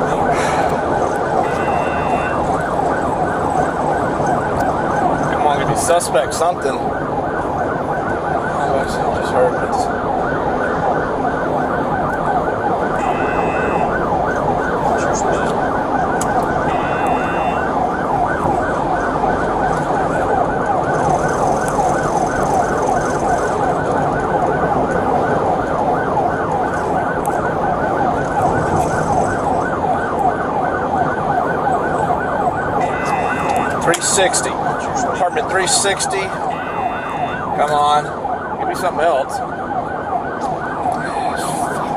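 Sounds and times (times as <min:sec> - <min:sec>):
police siren yelping: 0:00.0 - 0:41.9.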